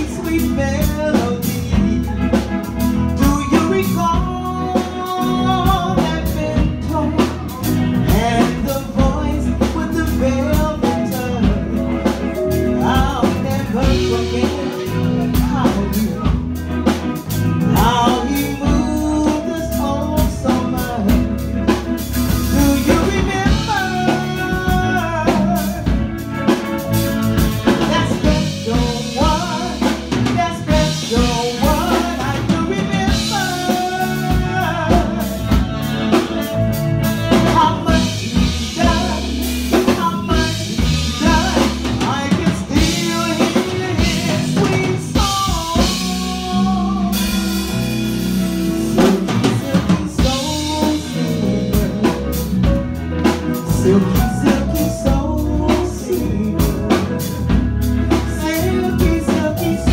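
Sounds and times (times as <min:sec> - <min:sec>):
bass: 0:00.0 - 0:59.9
drum kit: 0:00.0 - 0:59.9
person singing: 0:00.0 - 0:59.9.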